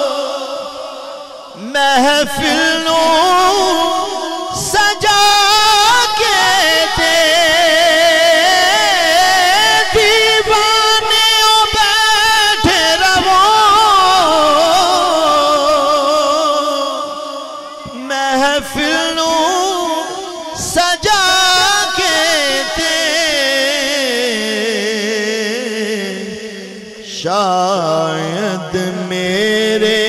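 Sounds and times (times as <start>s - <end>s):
man singing into a microphone: 0.0s - 30.0s.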